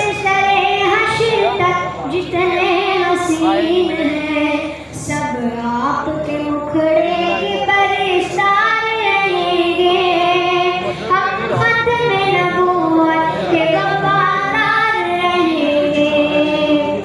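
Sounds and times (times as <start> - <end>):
boy singing unaccompanied: 0.0 - 17.0.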